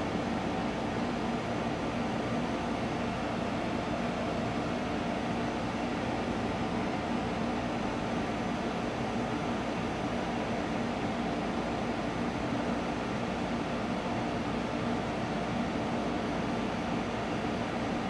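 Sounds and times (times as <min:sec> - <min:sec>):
low mechanical hum with hiss: 0:00.0 - 0:18.0.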